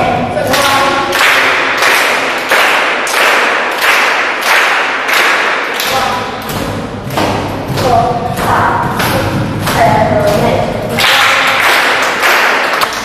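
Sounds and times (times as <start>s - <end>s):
group clapping in steady beat: 0.0s - 13.0s.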